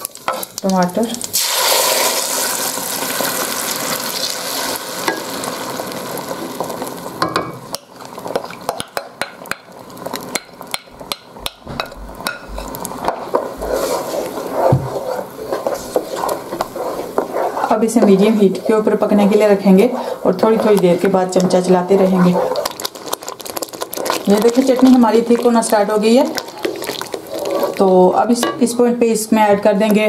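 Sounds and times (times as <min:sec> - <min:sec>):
sizzling in hot oil: 0:00.0 - 0:28.4.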